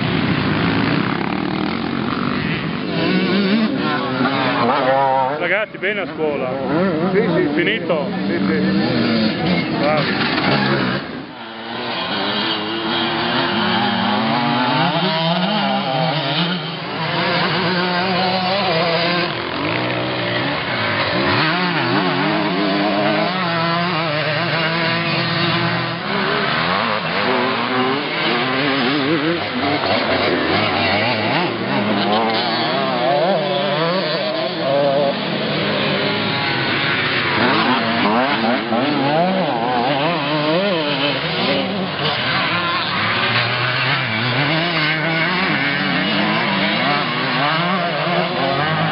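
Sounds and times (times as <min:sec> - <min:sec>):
motorcycle engines revving: 0:00.0 - 0:48.9.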